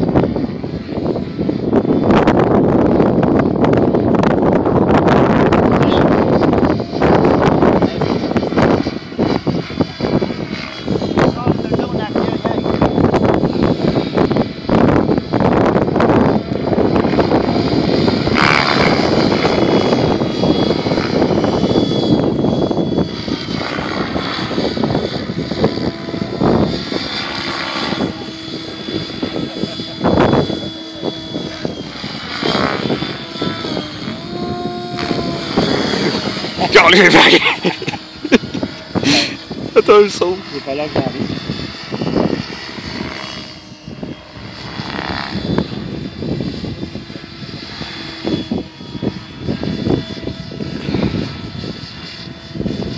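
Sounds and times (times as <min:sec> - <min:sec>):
helicopter rotor whirr: 0:00.0 - 0:52.9
wind on microphone: 0:00.0 - 0:52.9.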